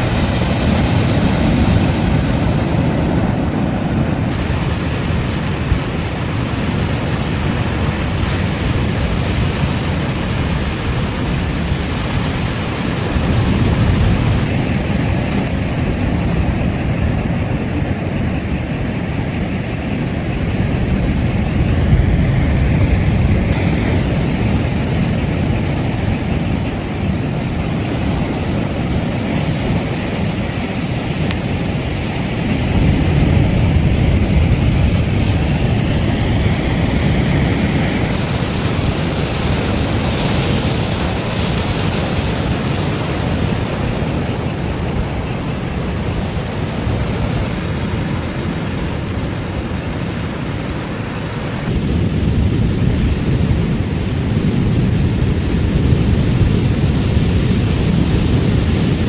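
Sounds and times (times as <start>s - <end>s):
ocean surf washing on beach: 0.0s - 59.0s.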